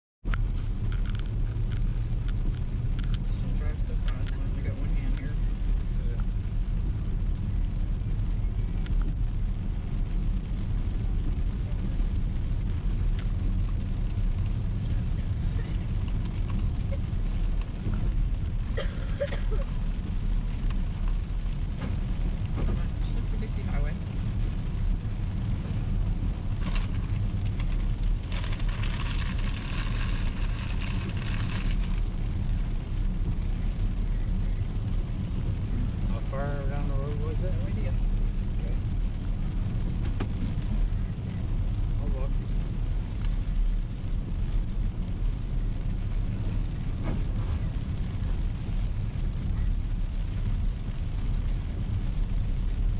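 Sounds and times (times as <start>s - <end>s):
car interior low rumble: 0.2s - 52.9s
tyres hissing on wet road: 0.4s - 52.9s.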